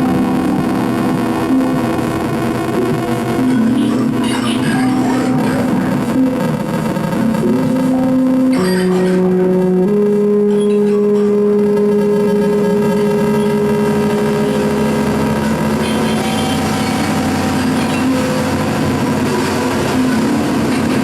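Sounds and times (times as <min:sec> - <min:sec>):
droning tones: 0:00.0 - 0:21.0
harsh noise wall: 0:00.0 - 0:21.0.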